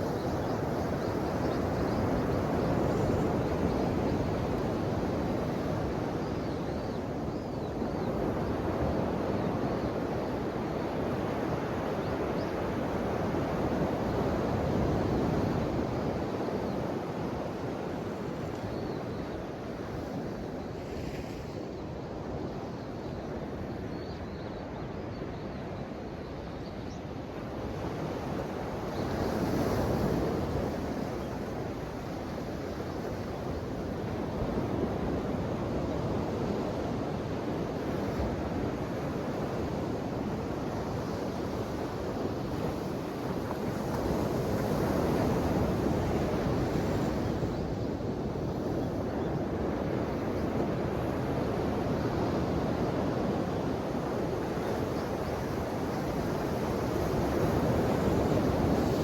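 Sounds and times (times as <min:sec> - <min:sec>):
ocean waves on shore: 0:00.0 - 0:23.9, 0:27.4 - 0:59.0.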